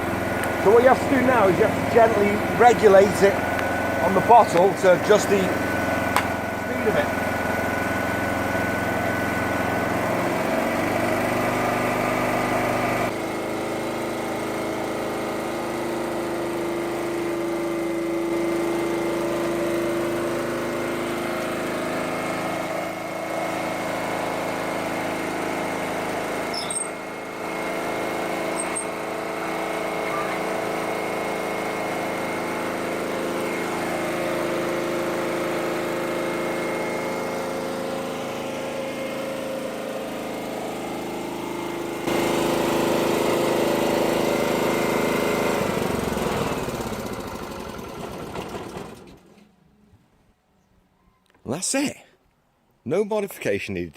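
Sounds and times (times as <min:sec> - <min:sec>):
small generator engine running: 0:00.0 - 0:49.5.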